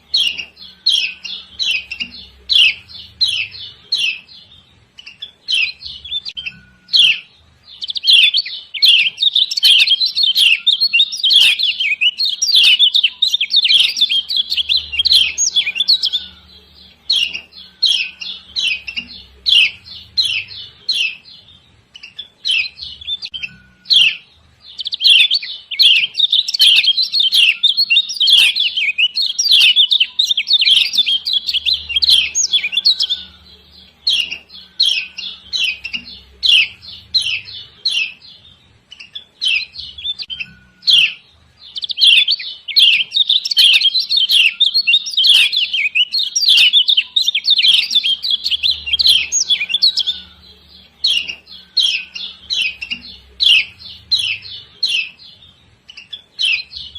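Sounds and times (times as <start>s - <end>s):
bird chirping calls: 0.0s - 56.9s.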